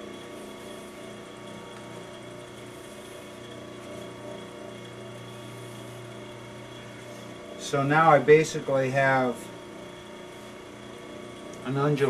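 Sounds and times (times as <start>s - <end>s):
small electric motor humming: 0.0s - 12.0s.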